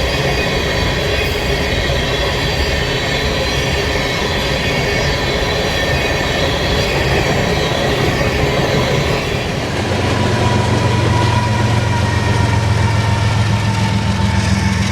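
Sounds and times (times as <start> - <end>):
train wheels on rails: 0.0 - 14.9.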